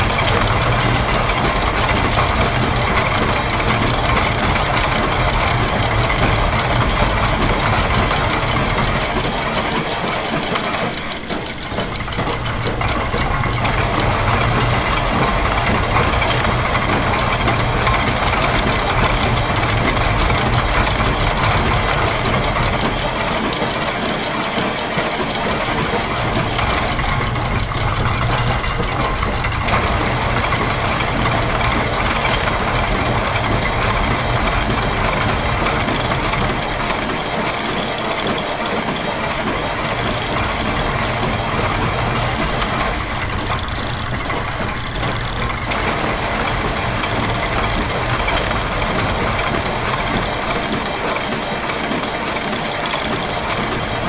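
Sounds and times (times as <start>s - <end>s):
clicking of gears and ratchets: 0.0s - 54.0s
low mechanical hum: 0.0s - 54.0s.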